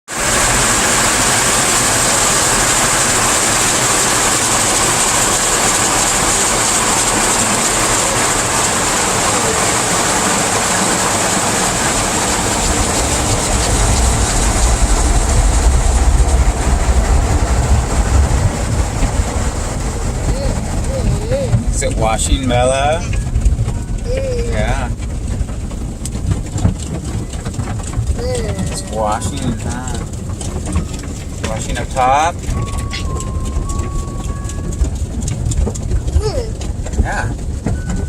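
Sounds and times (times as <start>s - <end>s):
car wash machinery rumble: 0.1s - 38.0s
water spraying on car: 0.1s - 38.0s.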